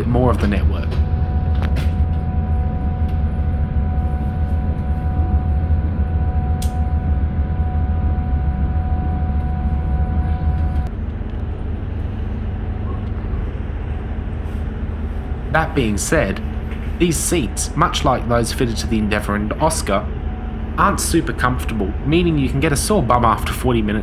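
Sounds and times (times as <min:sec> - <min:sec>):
diesel engine drone: 0:00.0 - 0:24.0
high whine: 0:00.0 - 0:24.0.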